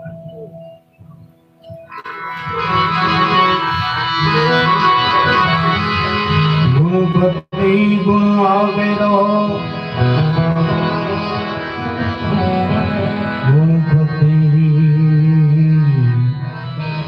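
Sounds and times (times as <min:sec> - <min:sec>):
plucked string instrument melody: 0:01.8 - 0:17.0
harmonium sustained notes: 0:02.0 - 0:17.0.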